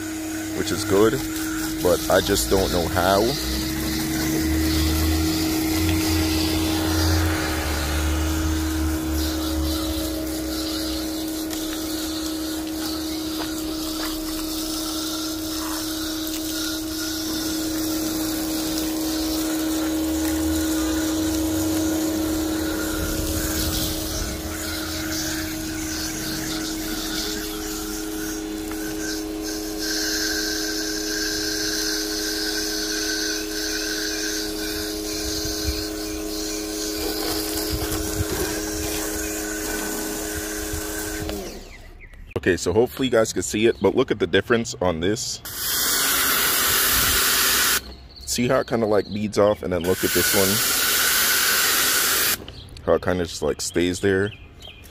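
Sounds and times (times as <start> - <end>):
water jet hissing on a car: 0.0 - 41.8, 45.4 - 47.9, 49.8 - 52.4
pressure washer motor humming: 0.0 - 42.2, 45.4 - 48.0, 49.8 - 52.6.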